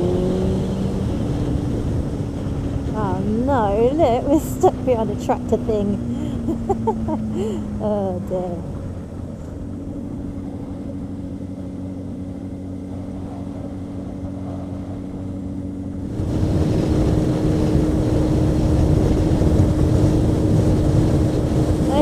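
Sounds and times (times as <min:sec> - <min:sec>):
motorcycle engine running: 0:00.0 - 0:22.0
wind noise on microphone: 0:00.0 - 0:22.0.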